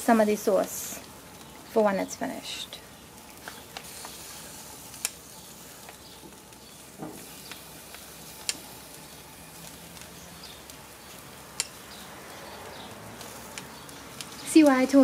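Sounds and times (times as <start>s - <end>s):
sauce sizzling on a barbecue grill: 0.0s - 15.0s.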